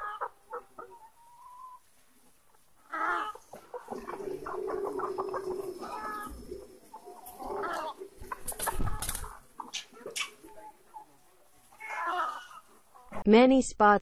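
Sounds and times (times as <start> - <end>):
hens clucking: 0.0 - 13.2.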